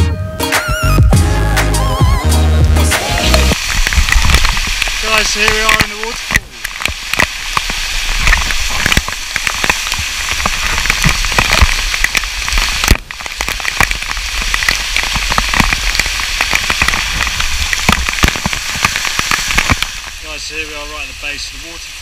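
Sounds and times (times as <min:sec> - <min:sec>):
waterfall cascading and splashing: 0:01.2 - 0:22.0
sharp crackling water hits: 0:02.8 - 0:22.0.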